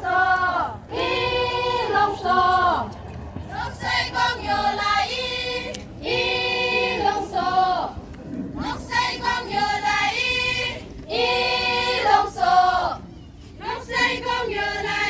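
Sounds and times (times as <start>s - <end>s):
group singing in unison: 0.0s - 2.9s, 3.5s - 8.0s, 8.6s - 13.0s, 13.6s - 15.0s.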